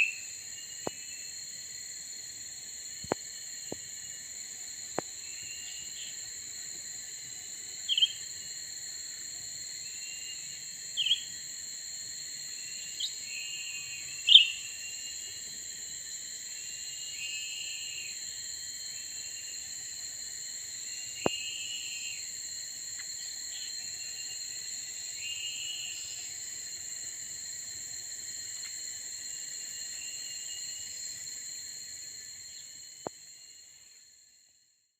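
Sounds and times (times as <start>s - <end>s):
high-pitched insect drone: 0.0s - 34.7s.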